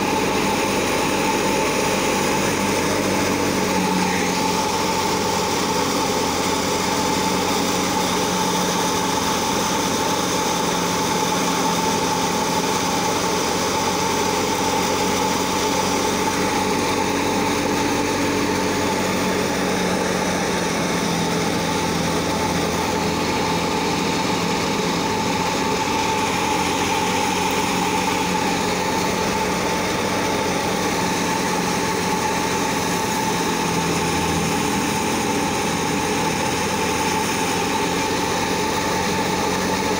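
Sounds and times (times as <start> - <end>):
high whine of spinning drum: 0.0 - 39.9
thresher mechanical drone: 0.0 - 39.9.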